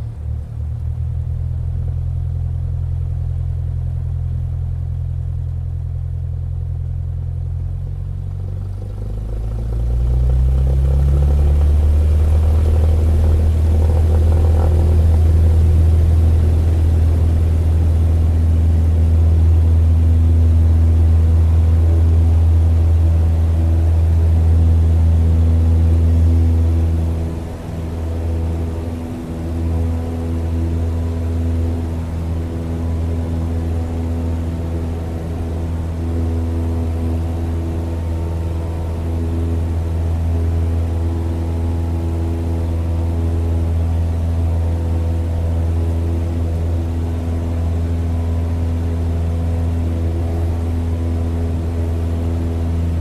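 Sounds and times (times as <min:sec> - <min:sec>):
propeller plane engine: 0:00.0 - 0:53.0.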